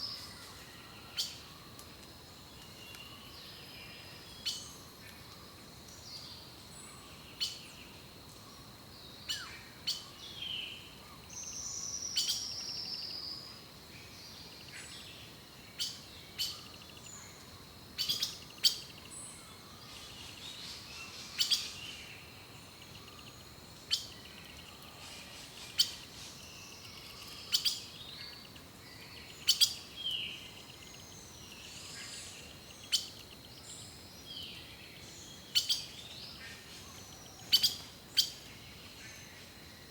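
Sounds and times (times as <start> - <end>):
songbirds chipping: 0.0 - 39.9.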